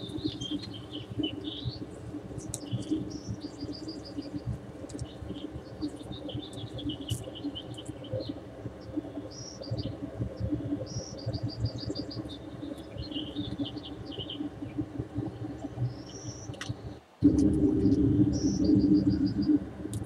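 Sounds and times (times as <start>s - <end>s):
bird chirping: 0.0s - 14.8s, 15.4s - 17.0s, 17.6s - 19.6s
low background rumble: 0.0s - 20.0s.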